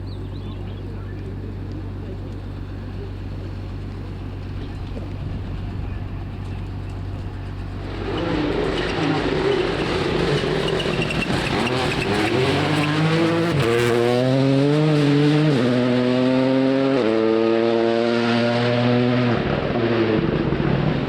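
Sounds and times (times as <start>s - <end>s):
rally car engine accelerating: 2.8s - 21.0s.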